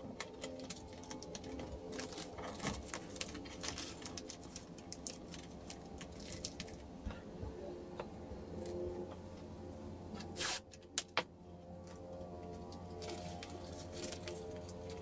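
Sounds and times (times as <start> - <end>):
tape crinkling and rustling: 0.0 - 7.5, 10.1 - 15.0
steady low hum: 0.0 - 15.0.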